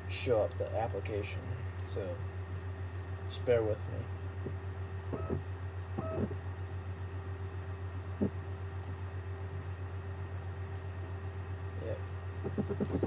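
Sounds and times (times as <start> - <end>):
low pulsing hum: 0.0 - 13.0.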